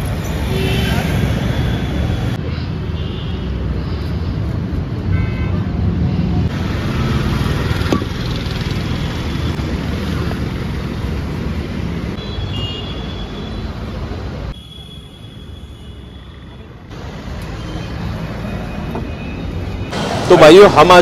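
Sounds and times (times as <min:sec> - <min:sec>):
rumble of passing vehicles: 0:00.0 - 0:14.6, 0:16.1 - 0:21.0.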